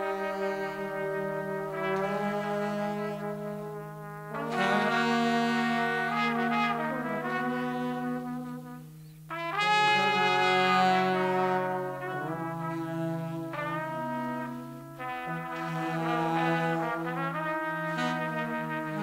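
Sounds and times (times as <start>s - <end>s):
jazz horn section playing chords: 0.0s - 19.0s.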